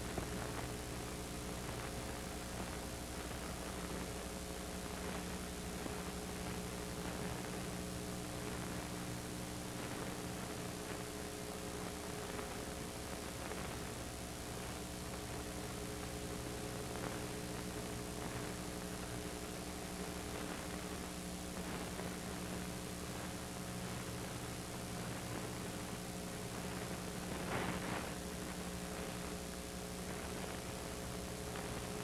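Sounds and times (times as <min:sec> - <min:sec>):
constant hiss: 0:00.0 - 0:32.0
electrical mains hum: 0:00.0 - 0:32.0.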